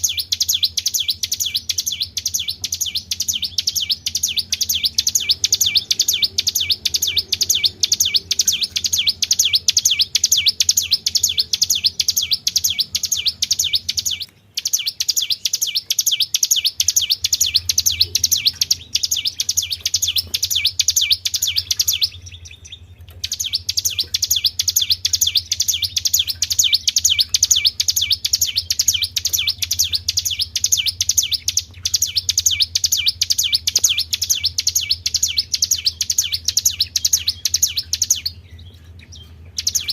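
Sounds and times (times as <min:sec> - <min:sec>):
faint low hum: 0:00.0 - 0:39.9
songbird rapid high chirps: 0:00.0 - 0:39.9.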